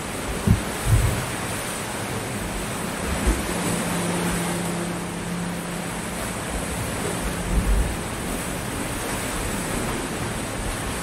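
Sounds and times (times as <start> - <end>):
waves washing up a beach: 0.0 - 11.0
wind rumble on microphone: 0.0 - 11.0.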